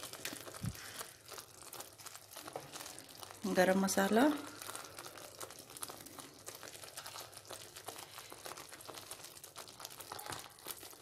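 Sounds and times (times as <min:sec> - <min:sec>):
faint crackling of frying: 0:00.0 - 0:11.0.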